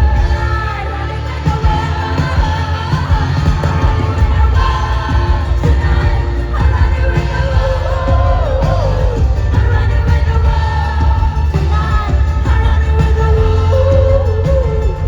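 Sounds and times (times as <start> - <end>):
loud band with heavy bass: 0.0 - 15.0
woman singing: 0.0 - 15.0.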